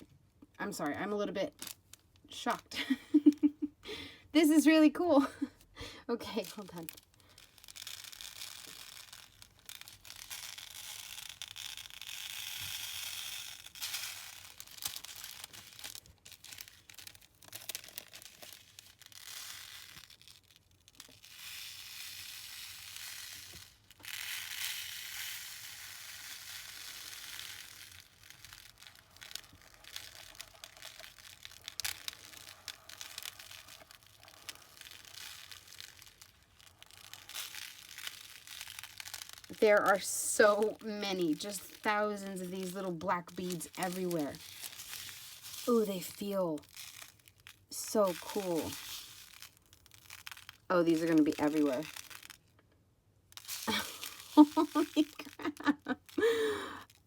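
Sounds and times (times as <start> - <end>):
small clicks and crinkles: 1.4 - 3.7, 6.3 - 57.0
tiny beads pouring onto paper: 1.5 - 3.5, 6.3 - 57.0.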